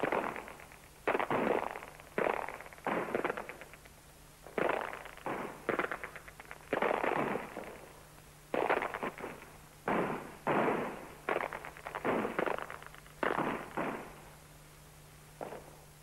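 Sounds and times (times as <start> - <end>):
crackling gunfire: 0.0 - 14.3, 15.4 - 15.8
faint steady hum: 0.0 - 16.0.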